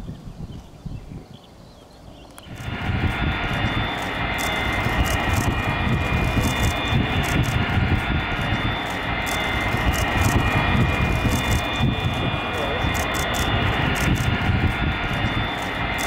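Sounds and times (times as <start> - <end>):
jet engines roaring: 2.3 - 16.0.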